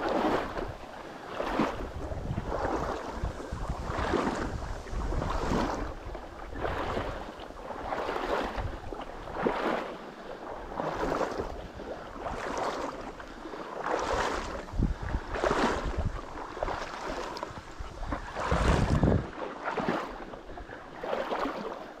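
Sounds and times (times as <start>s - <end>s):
wind rumble on microphone: 0.0s - 21.7s
footsteps wading through water: 0.0s - 22.0s.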